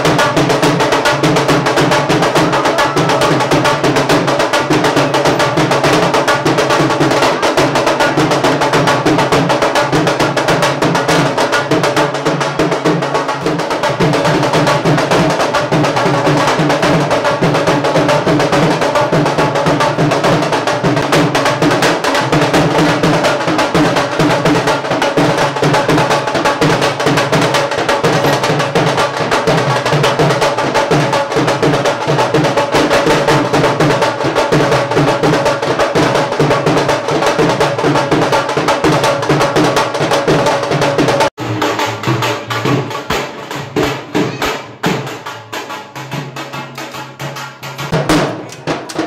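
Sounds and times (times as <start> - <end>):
fast dhol drumming music: 0.0 - 49.0.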